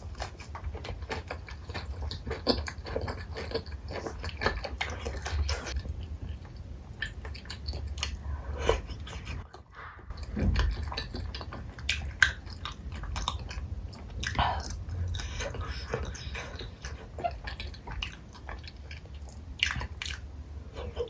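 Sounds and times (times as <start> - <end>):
close chewing and biting: 0.0 - 21.0.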